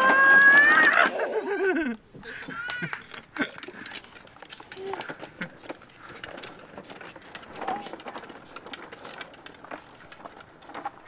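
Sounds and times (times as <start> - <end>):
plastic wheels rattling on concrete: 0.0 - 11.0.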